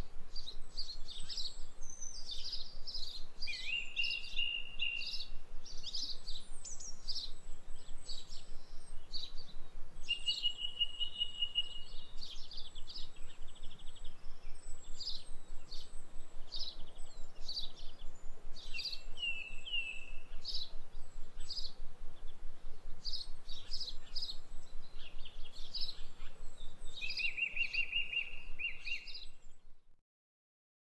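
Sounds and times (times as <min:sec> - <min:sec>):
birds chirping and trilling: 0:00.0 - 0:29.7.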